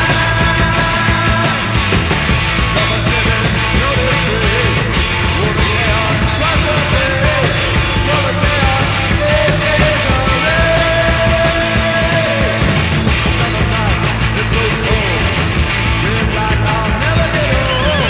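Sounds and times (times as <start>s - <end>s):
speed metal music: 0.0s - 18.0s.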